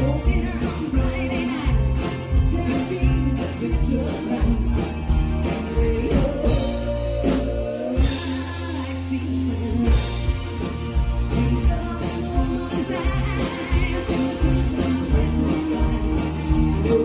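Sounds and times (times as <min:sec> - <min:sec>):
live country band playing: 0:00.0 - 0:17.0
woman singing lead: 0:00.0 - 0:17.0.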